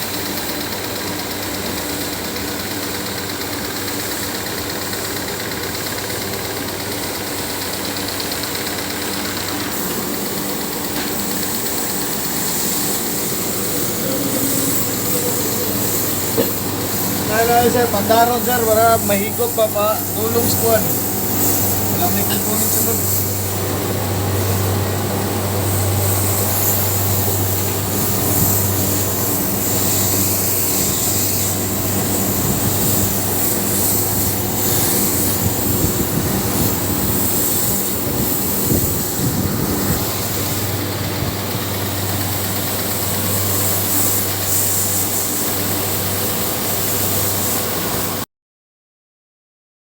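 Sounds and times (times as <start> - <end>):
rushing water or air hiss: 0.0 - 48.2
motor humming: 4.6 - 48.0.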